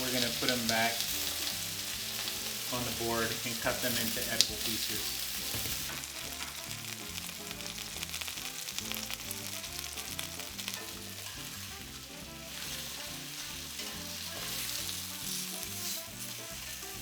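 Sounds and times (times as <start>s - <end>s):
background music: 0.0s - 17.0s
chicken sizzling in frying pan: 0.0s - 17.0s.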